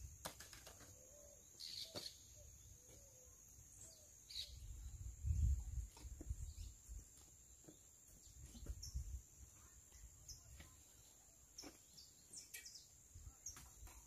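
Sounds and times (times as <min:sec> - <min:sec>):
faint bird chirps: 0:00.8 - 0:14.0.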